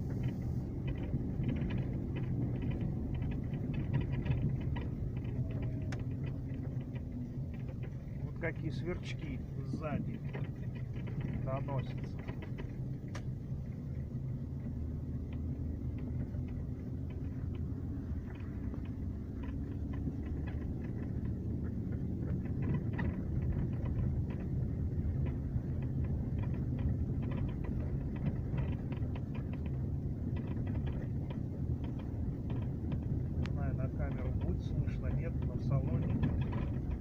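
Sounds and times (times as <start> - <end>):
faint interior creaks: 0.0 - 37.0
road and engine rumble: 0.0 - 37.0.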